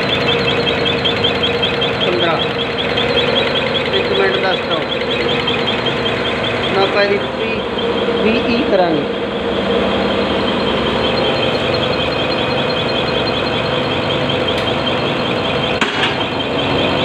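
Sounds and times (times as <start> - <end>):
injector rapid ticking: 0.0 - 15.8
machine hum: 0.0 - 17.0.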